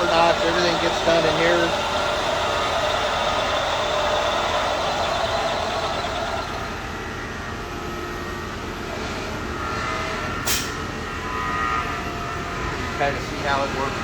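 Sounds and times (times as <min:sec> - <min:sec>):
cnc machining noise: 0:00.0 - 0:14.0.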